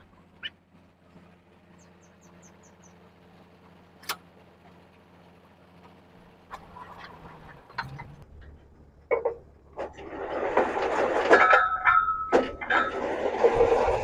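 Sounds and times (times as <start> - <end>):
drilling rig engine running: 0.0 - 14.0.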